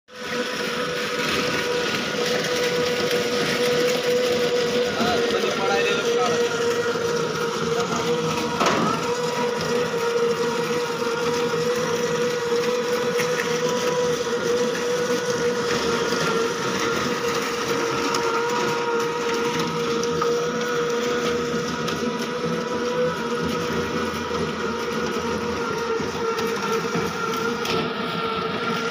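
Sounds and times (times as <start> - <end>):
machine motor whining: 0.2 - 28.9.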